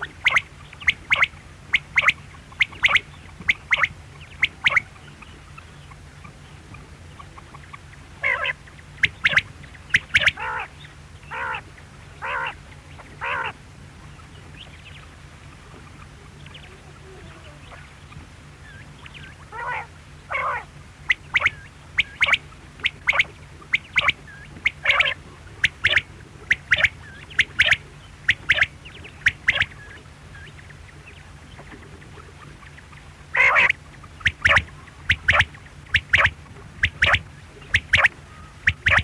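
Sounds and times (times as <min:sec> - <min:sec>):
quail calling: 0:00.0 - 0:39.0.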